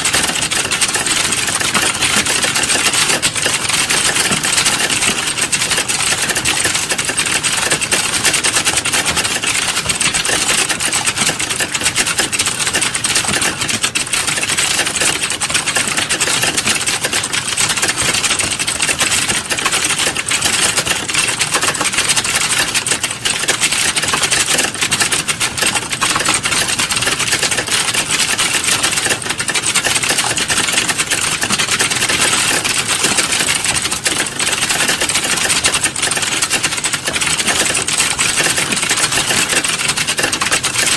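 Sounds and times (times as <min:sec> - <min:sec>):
rapid keyboard typing: 0:00.0 - 0:40.9.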